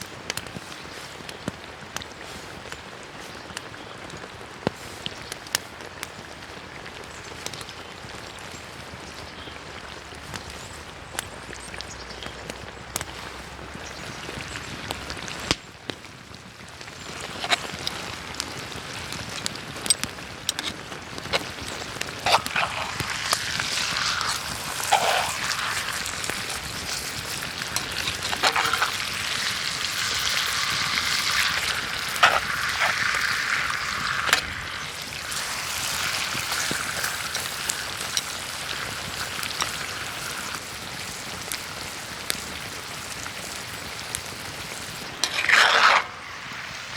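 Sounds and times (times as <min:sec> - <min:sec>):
campfire crackles and pops: 0:00.0 - 0:46.9
food sizzling in a pan: 0:00.0 - 0:46.9.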